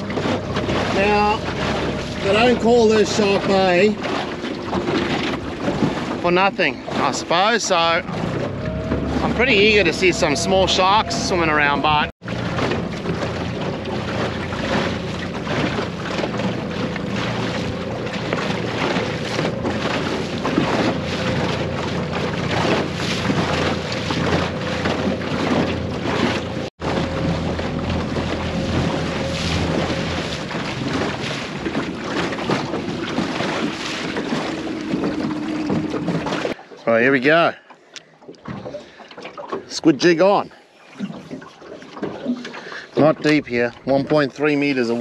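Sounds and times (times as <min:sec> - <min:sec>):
outboard motor running: 0:00.0 - 0:45.0
water rushing past hull: 0:00.0 - 0:45.0.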